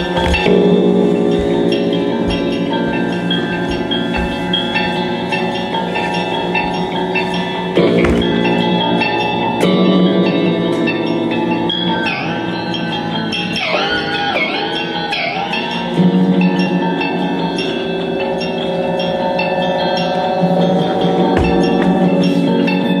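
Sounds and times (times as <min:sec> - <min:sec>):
bell-like struck tones: 0:00.0 - 0:23.0.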